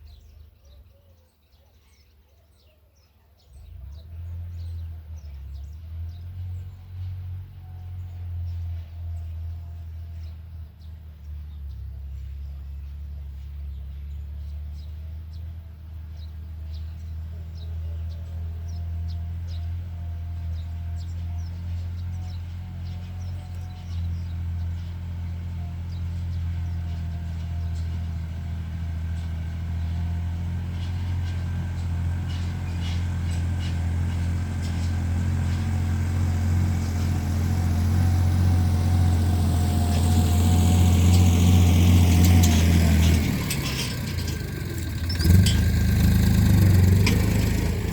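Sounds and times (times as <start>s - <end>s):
tractor engine running: 3.7s - 47.9s.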